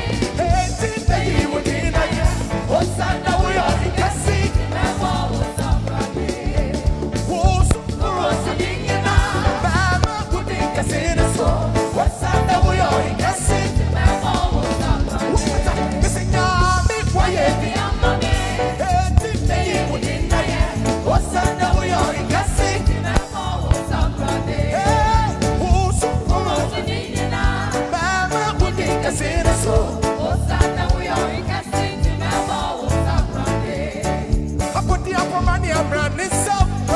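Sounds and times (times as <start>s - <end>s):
gospel band music: 0.0s - 36.9s
person singing: 0.0s - 36.9s.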